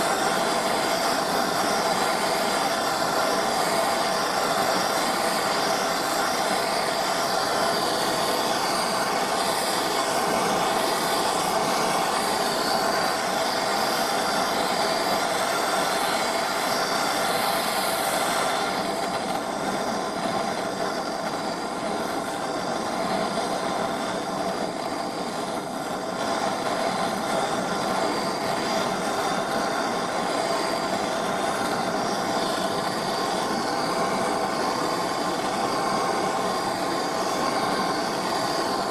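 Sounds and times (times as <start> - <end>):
machine hiss: 0.0 - 38.9
workshop machine humming: 0.0 - 38.9.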